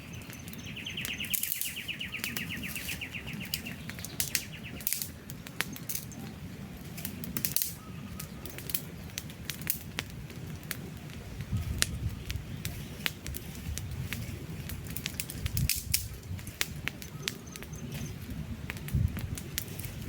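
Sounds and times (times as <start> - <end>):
campfire crackling: 0.0 - 20.0
low rumble of flames: 0.0 - 20.0.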